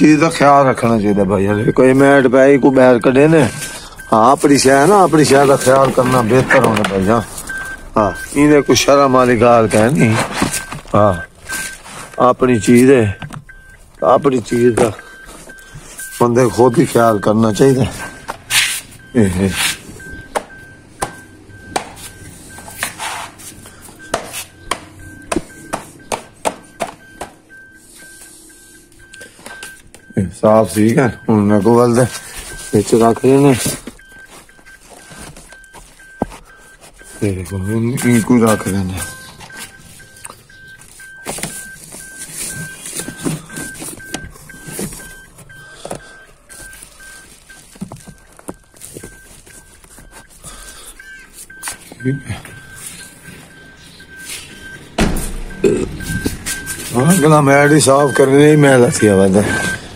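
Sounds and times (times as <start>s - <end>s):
faint repeating beep: 0.0s - 59.9s
plastic seat covers rustling: 3.2s - 59.8s.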